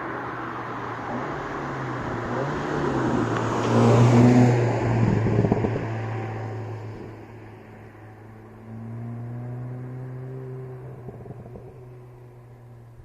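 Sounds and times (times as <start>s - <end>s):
car engine revving: 0.7s - 13.0s.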